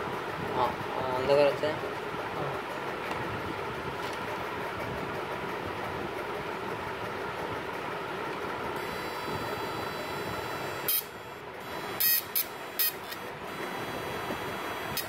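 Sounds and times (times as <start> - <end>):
inverter buzz and whine: 0.0 - 15.0.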